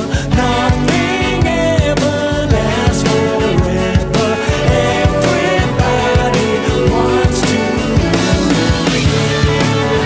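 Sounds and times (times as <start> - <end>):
drums keeping steady beat: 0.0 - 10.0
electric guitar: 0.0 - 10.0
man singing: 0.0 - 10.0.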